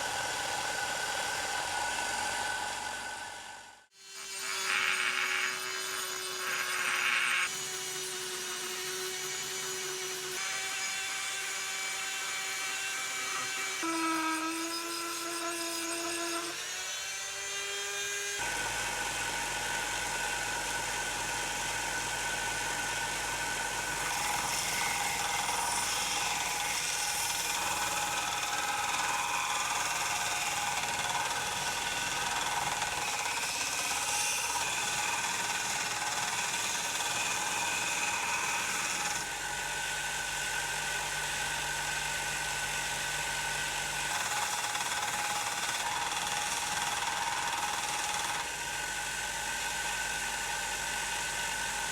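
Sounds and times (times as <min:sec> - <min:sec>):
power tool motor whine: 0:08.8 - 0:51.9.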